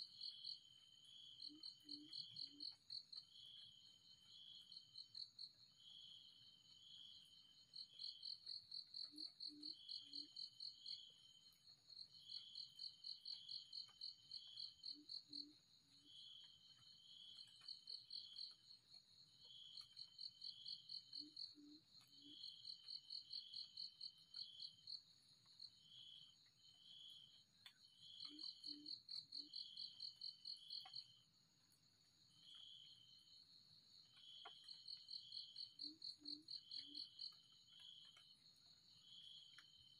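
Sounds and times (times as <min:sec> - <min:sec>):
insect lower paired chirps: 0:00.0 - 0:39.9.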